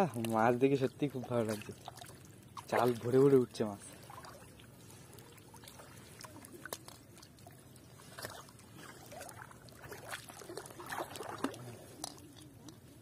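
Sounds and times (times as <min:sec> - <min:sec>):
net sloshing in shallow water: 0:00.0 - 0:13.0.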